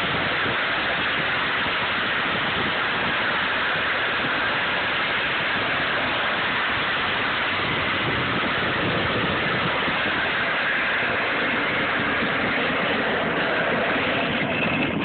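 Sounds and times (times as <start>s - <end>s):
road noise on asphalt: 0.0s - 15.0s.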